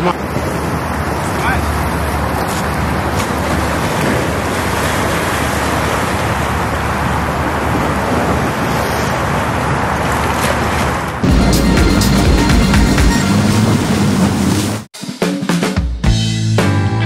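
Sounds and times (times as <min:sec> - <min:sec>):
sea waves: 0:00.0 - 0:14.9
wind at shoreline: 0:00.0 - 0:14.9.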